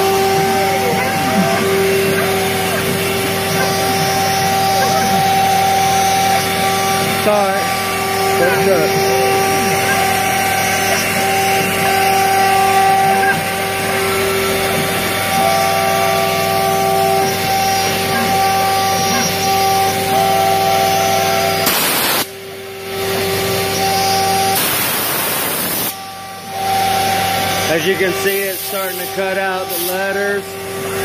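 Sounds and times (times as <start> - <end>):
cnc router spindle whining: 0.0 - 31.0.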